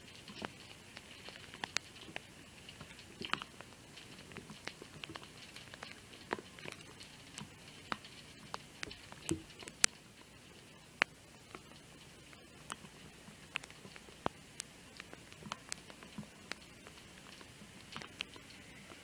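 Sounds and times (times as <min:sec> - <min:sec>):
faint steady hiss: 0:00.0 - 0:19.0
raindrops ticking: 0:00.0 - 0:19.0.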